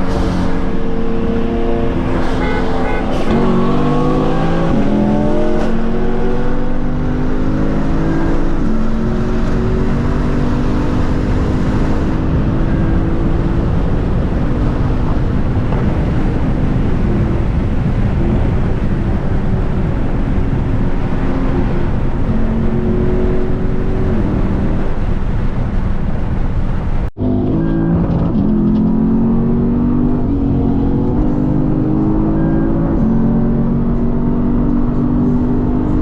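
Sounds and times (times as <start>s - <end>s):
car engine while driving: 0.0s - 36.0s
road and wind noise: 0.0s - 36.0s.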